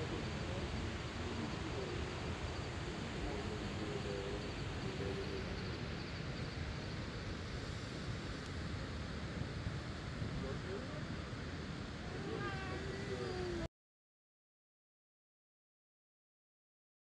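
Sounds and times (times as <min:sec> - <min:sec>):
distant waterfall: 0:00.0 - 0:13.7.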